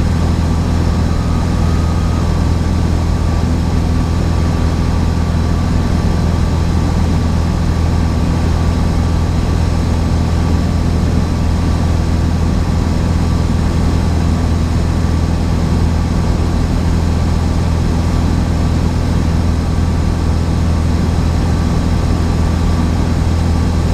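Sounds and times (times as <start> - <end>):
propeller plane engine droning: 0.0 - 23.9.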